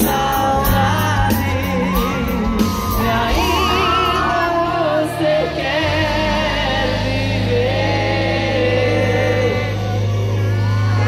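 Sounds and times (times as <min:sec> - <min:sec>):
heavy bass: 0:00.0 - 0:11.0
live pop band playing: 0:00.0 - 0:11.0.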